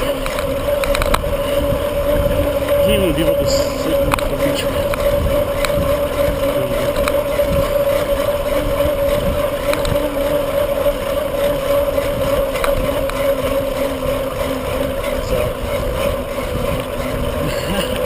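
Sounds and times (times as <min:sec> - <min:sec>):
droning hum: 0:00.0 - 0:18.0
wind and tyre noise: 0:00.0 - 0:18.0.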